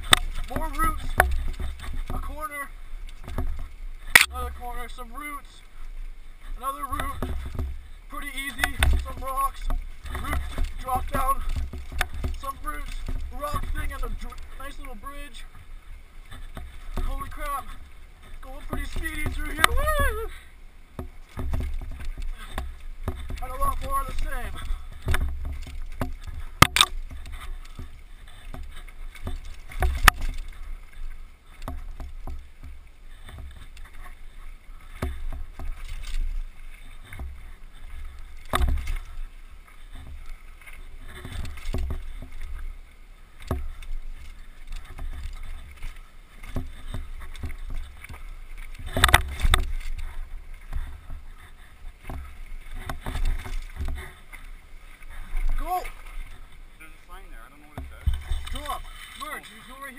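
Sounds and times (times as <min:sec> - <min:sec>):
mountain bike rattling on trail: 0:00.0 - 0:59.9.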